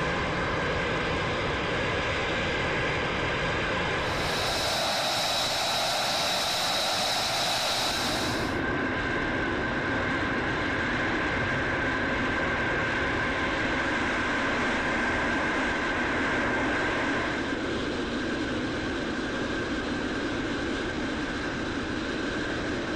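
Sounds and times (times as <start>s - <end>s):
jet engine idling whine: 0.1s - 22.9s.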